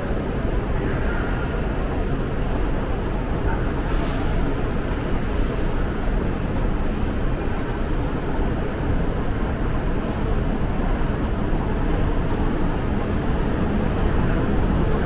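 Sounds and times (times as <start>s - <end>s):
subway station rumble: 0.0s - 15.0s.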